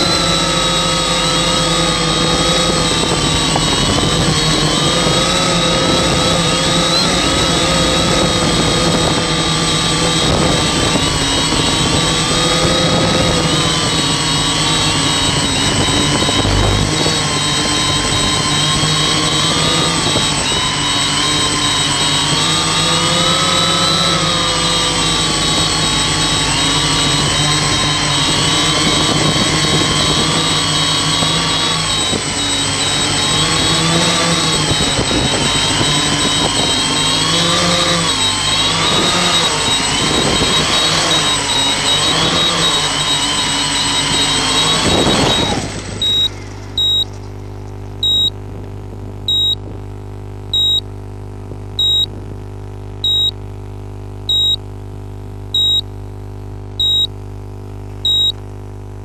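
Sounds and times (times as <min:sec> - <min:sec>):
drone motors and propellers whining: 0:00.0 - 0:52.2
steady high whine: 0:00.0 - 0:59.0.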